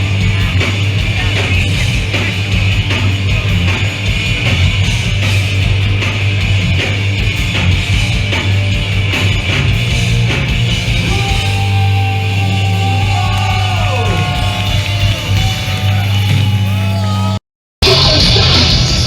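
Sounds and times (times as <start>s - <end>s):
punk band playing live: 0.0s - 19.0s.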